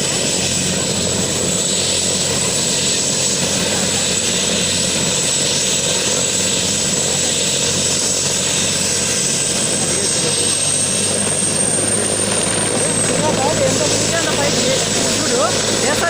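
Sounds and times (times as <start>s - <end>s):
helicopter rotor running: 0.0s - 16.0s.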